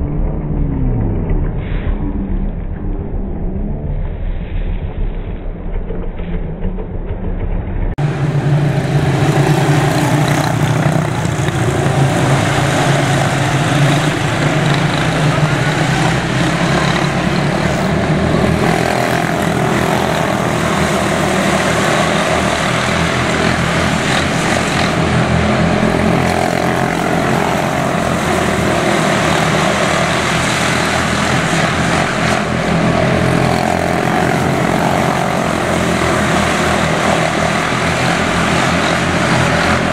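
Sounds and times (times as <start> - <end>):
race car engines droning: 0.0 - 39.9.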